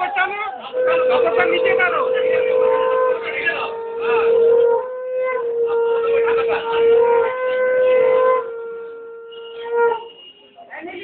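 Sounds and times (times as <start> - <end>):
voices: 0.0 - 11.0
conch shell blown: 0.5 - 10.6.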